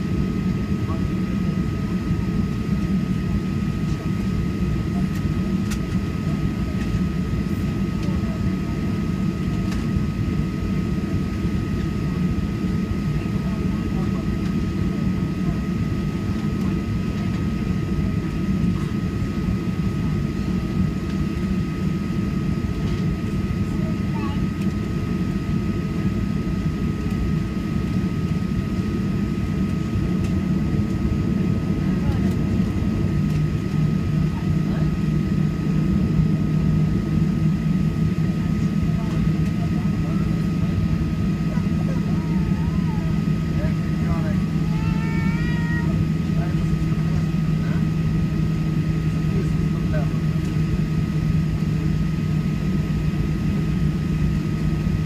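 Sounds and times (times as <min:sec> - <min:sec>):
airplane cabin engine rumble: 0:00.0 - 0:55.0
jet engine whine: 0:00.0 - 0:55.0.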